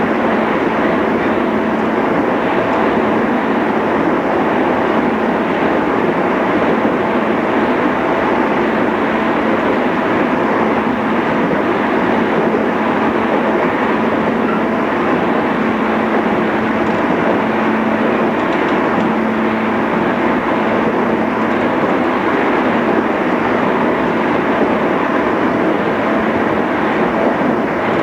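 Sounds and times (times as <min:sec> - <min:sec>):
train wheels and motors rumbling: 0:00.0 - 0:28.0.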